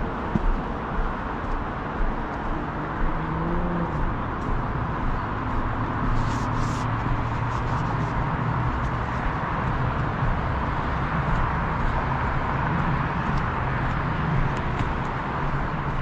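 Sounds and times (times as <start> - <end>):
vehicle engines passing: 0.0 - 16.0.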